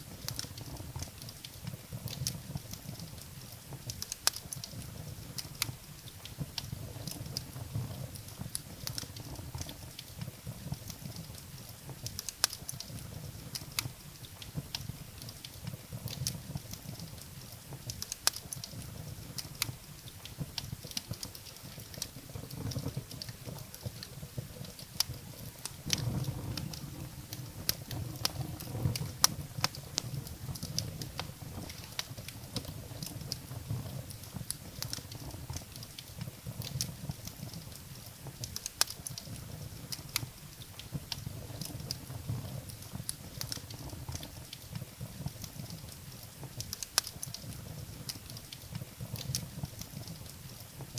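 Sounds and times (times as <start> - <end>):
firewood crackling and popping: 0.0 - 50.9
low rumble of flames: 0.0 - 50.9.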